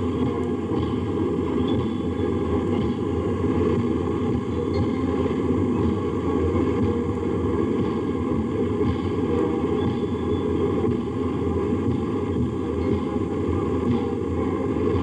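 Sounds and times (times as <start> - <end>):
recording noise: 0.0 - 15.0.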